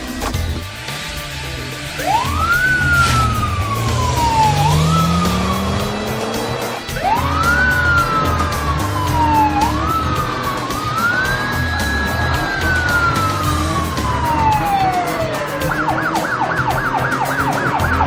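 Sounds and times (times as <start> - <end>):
background music: 0.0 - 18.0
wailing siren: 2.0 - 18.0.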